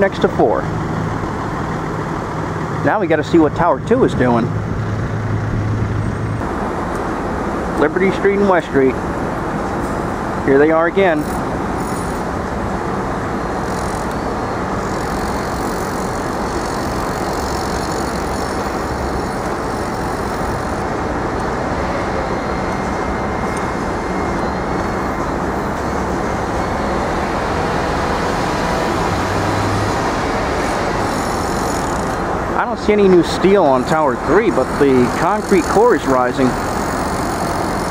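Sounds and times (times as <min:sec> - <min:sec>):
road traffic hum: 0:00.0 - 0:37.9.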